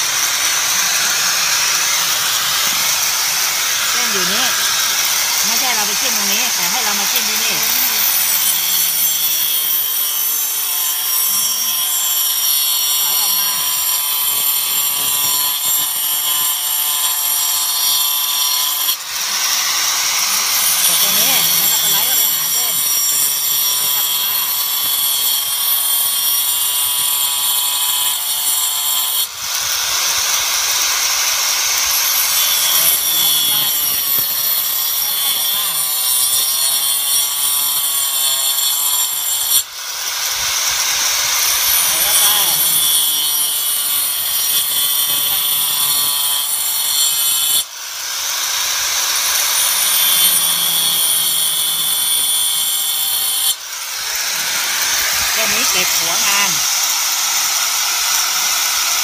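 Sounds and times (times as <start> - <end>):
angle grinder cutting wood: 0.0 - 59.0.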